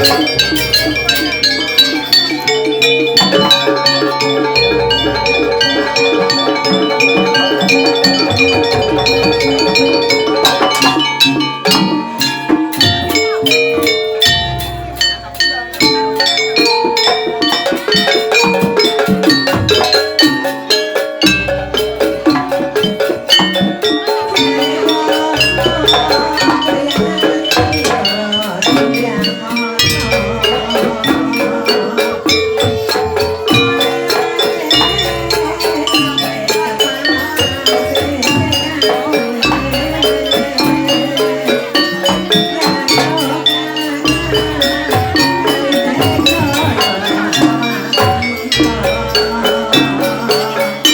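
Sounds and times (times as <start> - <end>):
drumming: 0.0 - 50.9
gamelan metal percussion: 0.0 - 50.9.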